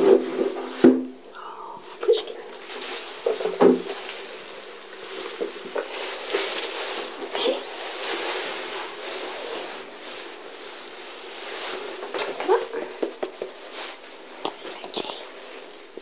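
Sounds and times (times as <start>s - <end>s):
steady low hum: 0.0s - 16.0s
camera rustling against clothing: 2.5s - 16.0s.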